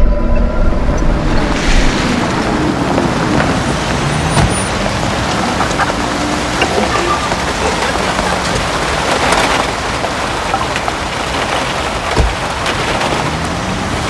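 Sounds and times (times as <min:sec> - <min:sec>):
rain on cars and wet ground: 0:01.6 - 0:14.0.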